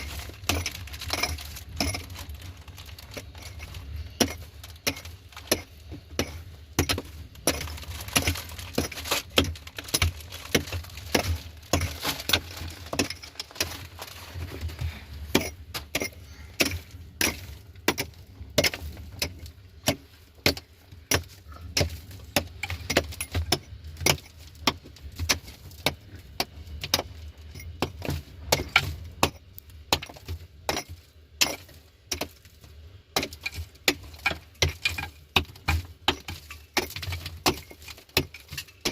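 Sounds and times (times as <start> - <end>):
hard objects knocking and clinking: 0.0 - 32.4, 33.1 - 38.9
low steady hum: 0.0 - 38.9.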